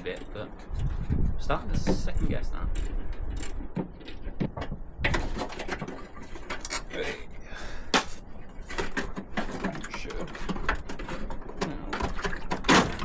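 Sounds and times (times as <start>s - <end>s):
metallic clicks and scrapes: 0.0s - 7.3s, 8.0s - 13.0s.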